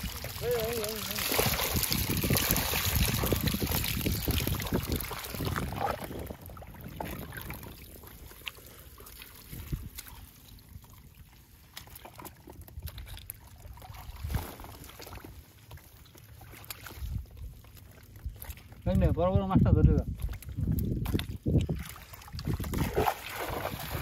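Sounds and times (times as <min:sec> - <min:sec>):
water splashing with fish: 0:00.0 - 0:24.0.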